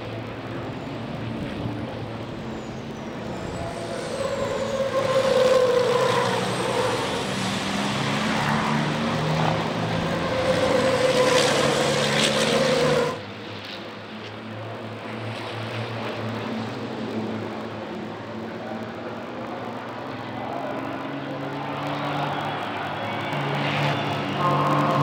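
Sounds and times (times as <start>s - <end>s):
truck diesel engines passing: 0.0s - 14.9s, 15.6s - 25.0s.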